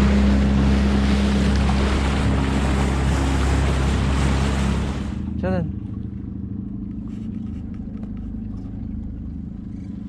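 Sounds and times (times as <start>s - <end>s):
boat engine running: 0.0s - 10.0s
rush of wind and water: 0.0s - 10.0s.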